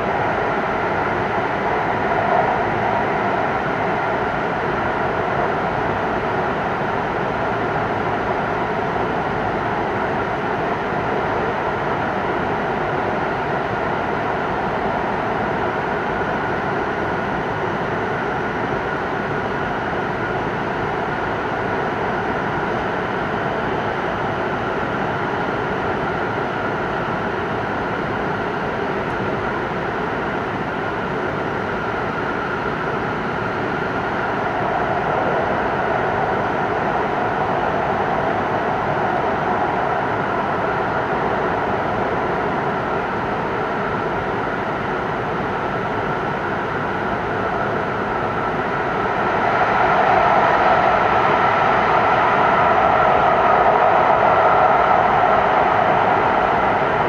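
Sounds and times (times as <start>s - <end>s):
train running in tunnel: 0.0s - 57.0s.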